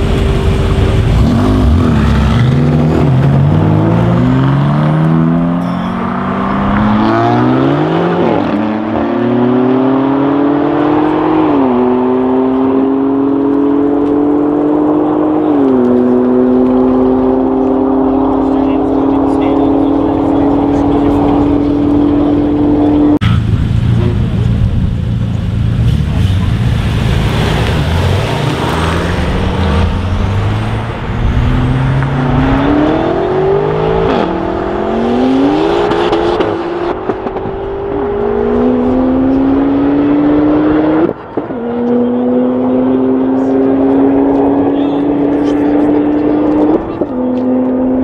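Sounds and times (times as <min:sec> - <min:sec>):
cars accelerating hard: 0:00.0 - 0:24.8, 0:25.6 - 0:48.0.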